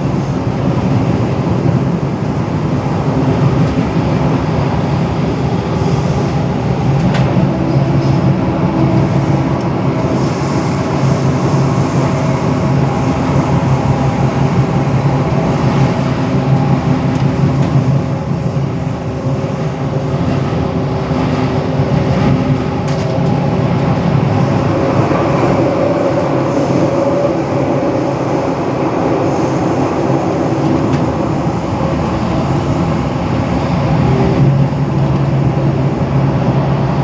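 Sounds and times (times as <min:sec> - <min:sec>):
metro train rumbling: 0:00.0 - 0:37.0.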